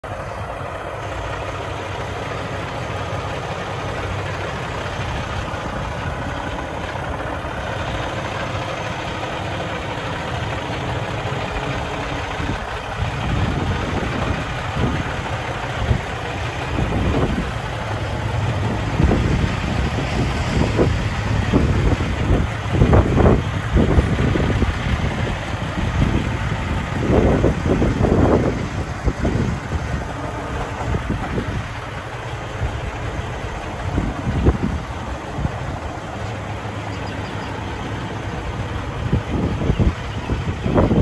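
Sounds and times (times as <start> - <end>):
diesel truck engine idling: 0.0 - 41.0
wind buffeting microphone: 0.5 - 41.0.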